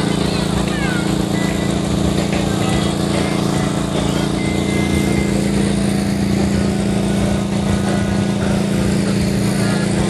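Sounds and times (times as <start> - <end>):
small engine humming: 0.0 - 10.0.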